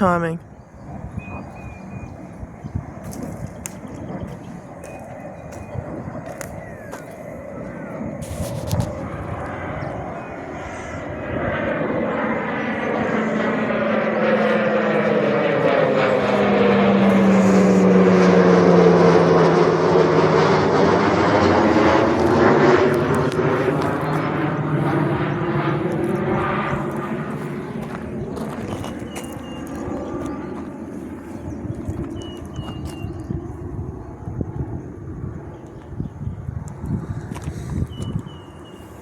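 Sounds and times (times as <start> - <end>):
aircraft flying past: 0.0 - 39.0.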